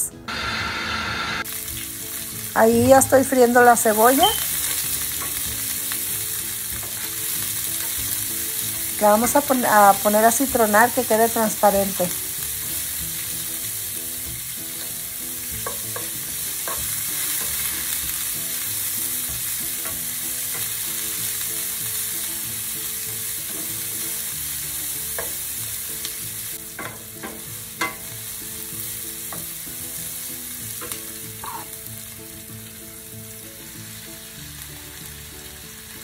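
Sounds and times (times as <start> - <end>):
onion sizzling in a pan: 0.0 - 36.0.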